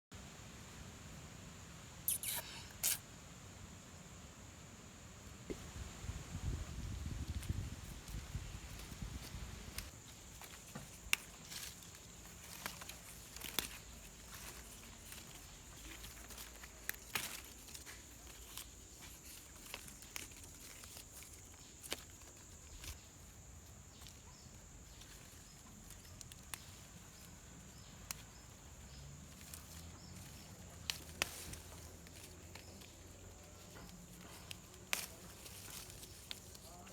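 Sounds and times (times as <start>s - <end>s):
dry leaves and twigs crackling: 5.5s - 36.9s.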